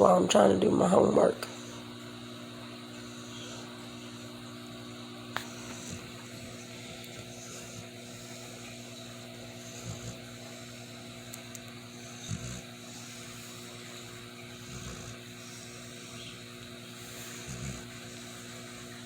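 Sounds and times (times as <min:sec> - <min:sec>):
steady electrical hum: 0:00.0 - 0:19.0
dog snoring softly: 0:00.8 - 0:19.0.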